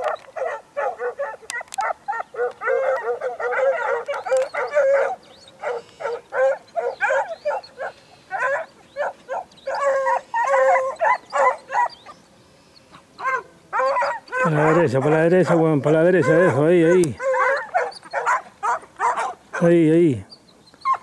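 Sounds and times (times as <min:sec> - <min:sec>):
hunting dogs baying: 0:00.0 - 0:21.0.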